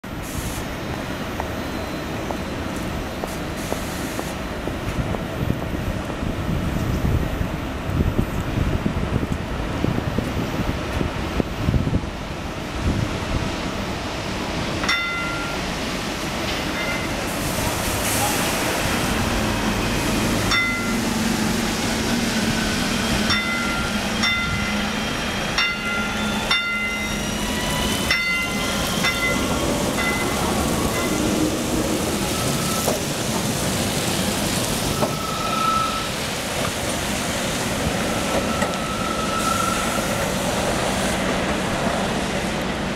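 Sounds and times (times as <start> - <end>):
electric tram hum: 0.0 - 42.9
tram drive whine: 0.0 - 42.9.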